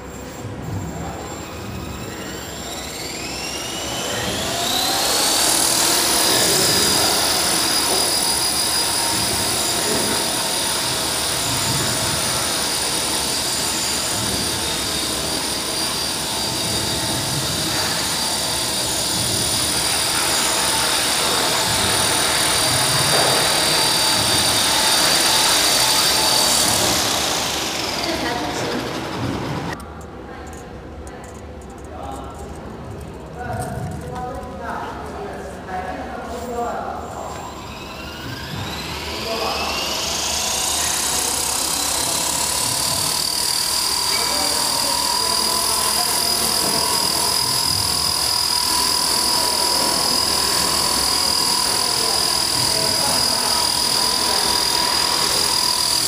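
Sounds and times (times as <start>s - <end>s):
rc helicopter motor whine: 0.0s - 29.8s, 36.4s - 56.0s.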